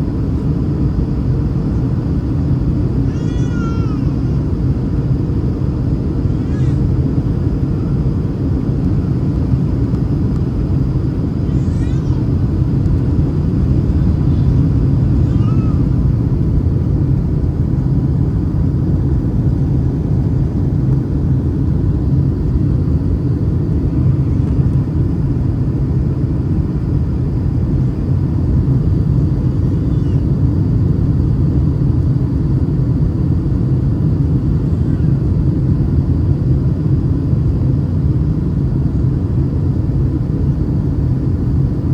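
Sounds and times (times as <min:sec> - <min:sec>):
airplane cabin airflow and engine: 0:00.0 - 0:41.9
faint steady whine: 0:00.0 - 0:41.9.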